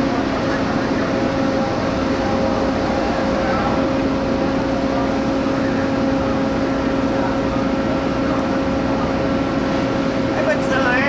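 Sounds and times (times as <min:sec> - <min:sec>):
machinery engine droning: 0:00.0 - 0:11.0.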